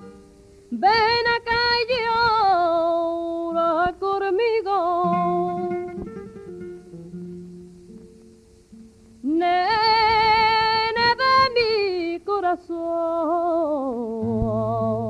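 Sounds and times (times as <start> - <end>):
plucked string notes: 0.0 - 12.1.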